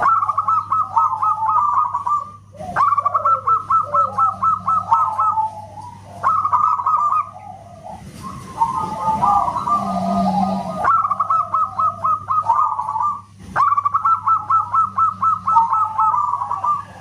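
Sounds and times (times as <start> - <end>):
dove cooing: 0.0 - 17.0
faint steady hum: 0.0 - 17.0.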